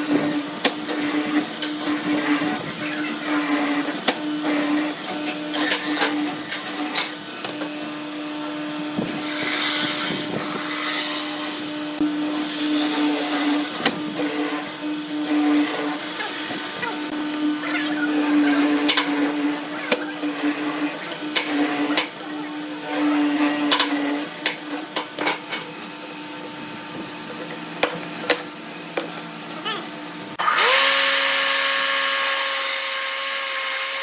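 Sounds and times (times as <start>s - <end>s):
electric power tool motor: 0.0s - 34.0s.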